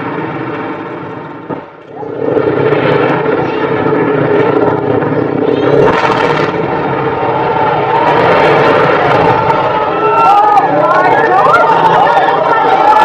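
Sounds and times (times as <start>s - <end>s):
crowd noise rumbling: 0.0s - 13.0s.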